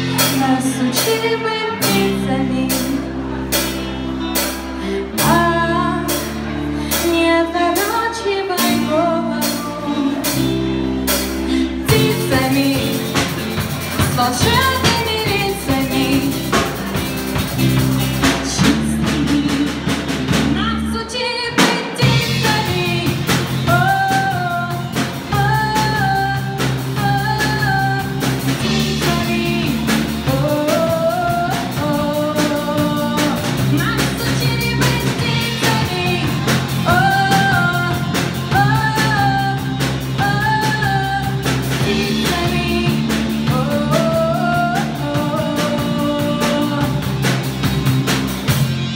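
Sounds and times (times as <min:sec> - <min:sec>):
person singing: 0:00.0 - 0:47.5
drums: 0:00.0 - 0:48.9
guitar: 0:00.0 - 0:48.9.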